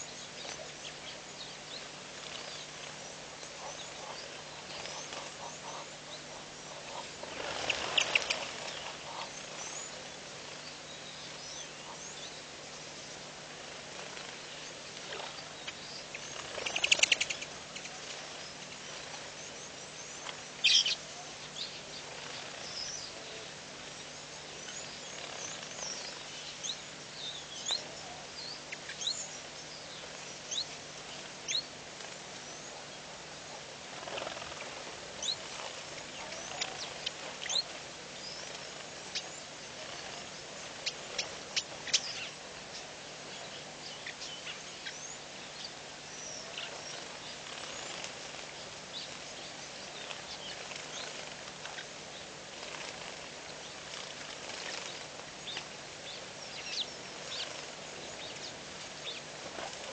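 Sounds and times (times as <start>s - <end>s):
faint low hum: 0.0s - 59.9s
small birds chirping: 0.0s - 59.9s
steady hiss: 0.0s - 59.9s.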